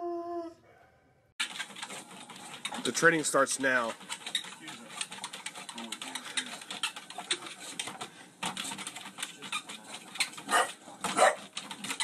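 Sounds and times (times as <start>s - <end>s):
dog claws tapping on treadmill: 1.4s - 12.0s
treadmill mechanism: 1.4s - 12.0s.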